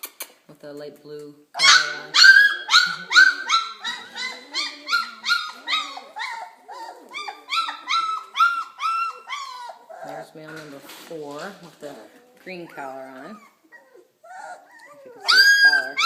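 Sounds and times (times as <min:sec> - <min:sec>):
puppy whining: 0:01.6 - 0:10.6, 0:11.5 - 0:16.0.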